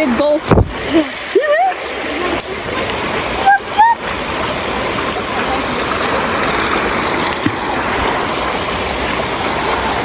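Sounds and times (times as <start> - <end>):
creek water rushing over rocks: 0.0 - 10.0.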